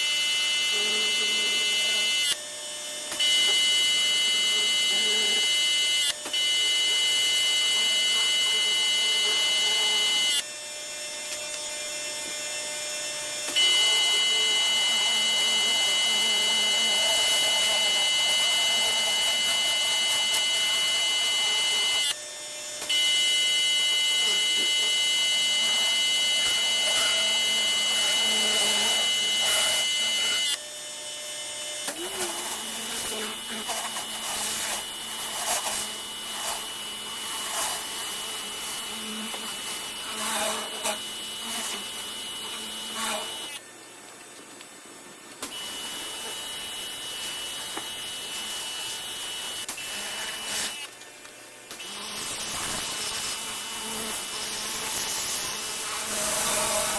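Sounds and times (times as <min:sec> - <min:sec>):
pressure washer whine: 0:00.0 - 0:30.6, 0:31.8 - 0:43.7, 0:45.4 - 0:56.9.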